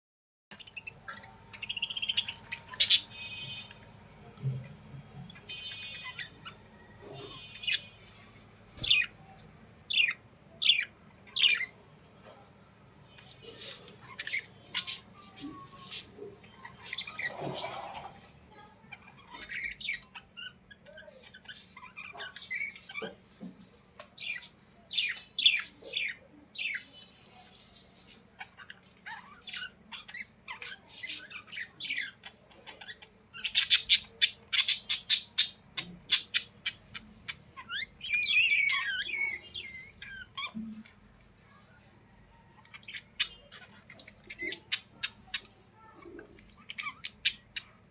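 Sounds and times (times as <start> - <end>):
birds squawking and chirping: 0.5 - 12.4, 13.0 - 41.6, 42.2 - 47.9.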